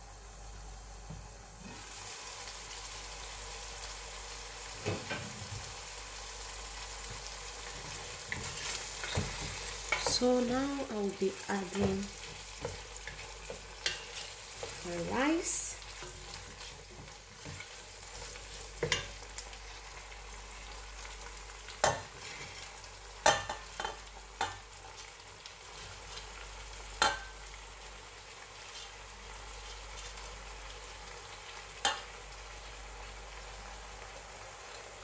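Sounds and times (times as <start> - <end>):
food sizzling in a pot: 0.0 - 35.0.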